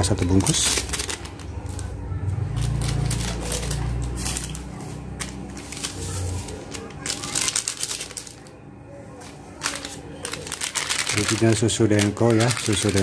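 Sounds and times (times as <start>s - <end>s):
foil sachet crinkling: 0.0s - 13.0s.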